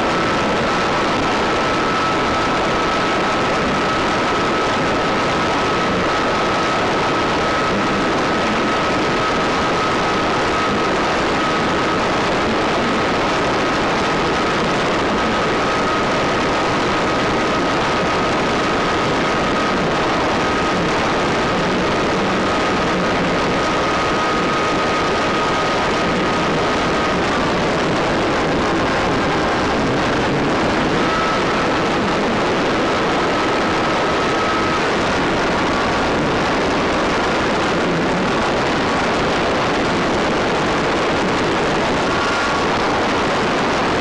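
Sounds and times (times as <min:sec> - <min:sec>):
model plane motor and propeller: 0:00.0 - 0:44.0
thin high whine: 0:00.0 - 0:44.0.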